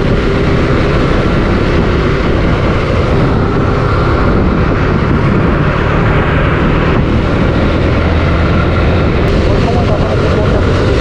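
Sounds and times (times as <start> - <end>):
motorcycle engine running: 0.0 - 11.0
wind rushing on microphone: 0.0 - 11.0.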